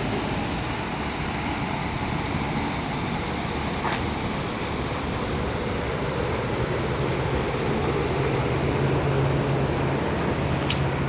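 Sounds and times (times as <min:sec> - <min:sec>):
low mechanical hum: 0:00.0 - 0:11.0
outdoor background noise: 0:00.0 - 0:11.0.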